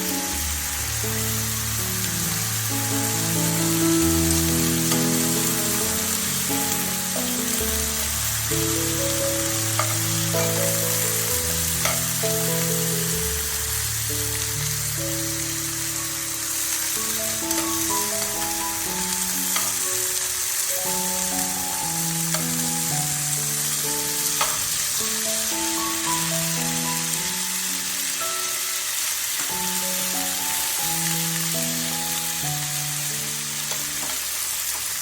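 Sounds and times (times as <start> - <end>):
background music: 0.0 - 35.0
food sizzling in hot oil: 0.0 - 35.0.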